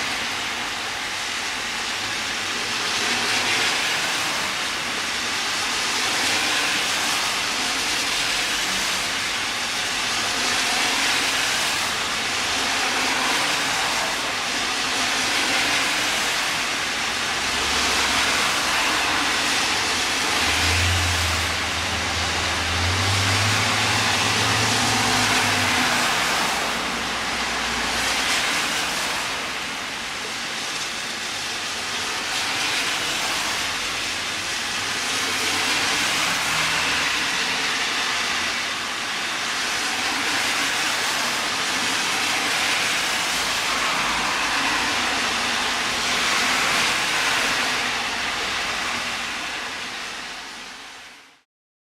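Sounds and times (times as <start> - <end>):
heavy rain hissing: 0.0 - 51.4
tyres hissing on wet road: 0.0 - 51.4.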